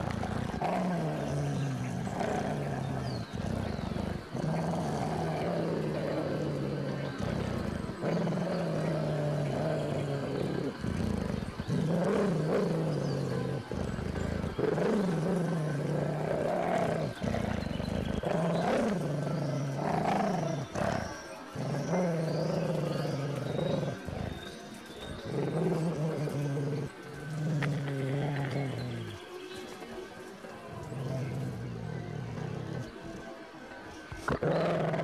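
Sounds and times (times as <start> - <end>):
large dog growling: 0.0 - 35.0.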